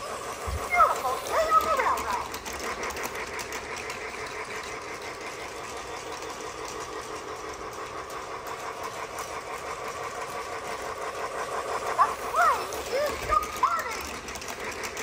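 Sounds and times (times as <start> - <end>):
small electric motor whirring: 0.0 - 15.0
toy train wheels clattering: 0.0 - 15.0.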